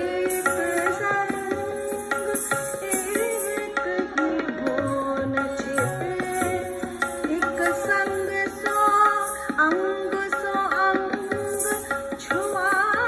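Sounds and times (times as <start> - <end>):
tabla strokes: 0.0 - 13.0.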